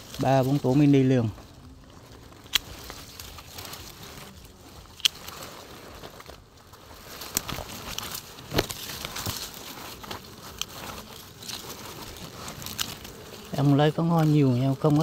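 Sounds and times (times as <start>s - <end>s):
dry grass and twigs rustling: 0.0s - 15.0s
twigs snapping: 0.0s - 15.0s.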